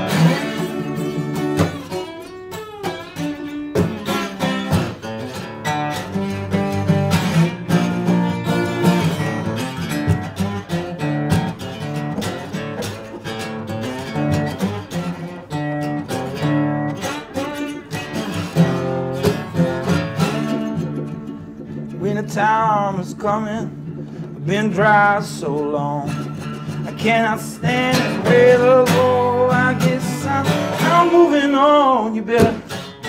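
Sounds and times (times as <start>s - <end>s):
slide acoustic guitar blues: 0.0s - 33.0s.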